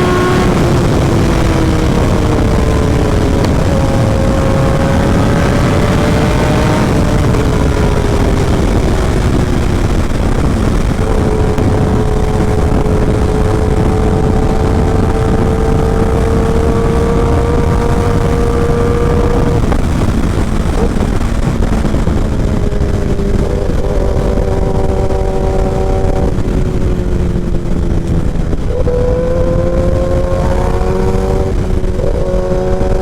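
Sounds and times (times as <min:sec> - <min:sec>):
motorcycle engine at speed: 0:00.0 - 0:33.0
wind rush: 0:00.0 - 0:33.0.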